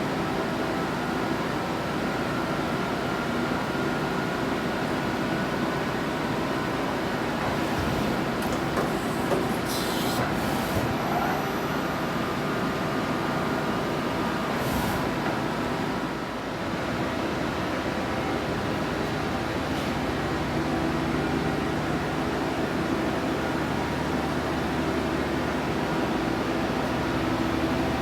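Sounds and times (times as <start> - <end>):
machinery hum: 0.0 - 28.0.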